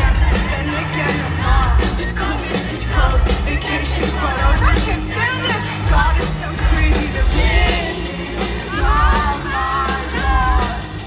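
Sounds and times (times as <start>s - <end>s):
live pop-rock band playing: 0.0s - 11.0s
person singing: 0.0s - 11.0s.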